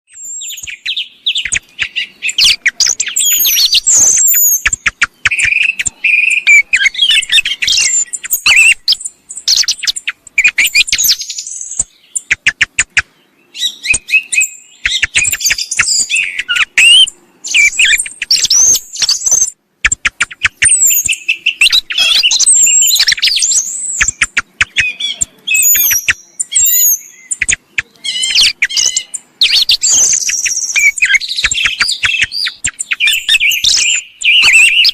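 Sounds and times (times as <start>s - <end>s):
song thrush singing: 0.1s - 34.9s.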